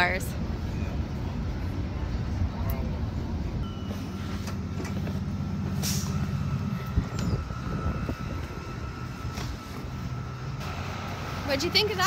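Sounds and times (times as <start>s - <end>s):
streetcar electric hum: 0.0s - 12.0s.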